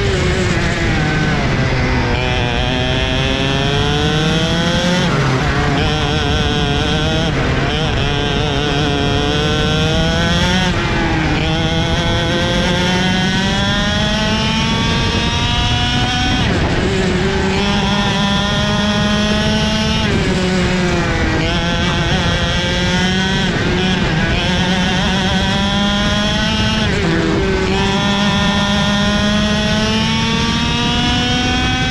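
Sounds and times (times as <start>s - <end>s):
kart engine racing: 0.0s - 31.9s.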